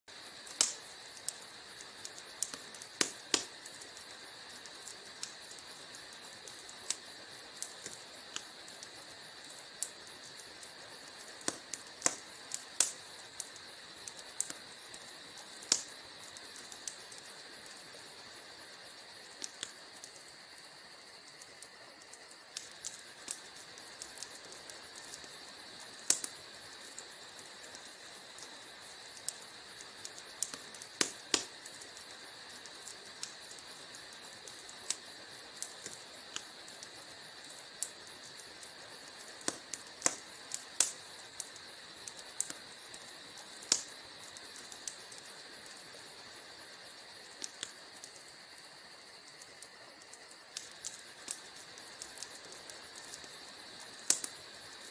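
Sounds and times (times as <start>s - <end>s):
soft hiss of fire: 0.1s - 54.9s
wood fire crackling: 0.1s - 54.9s.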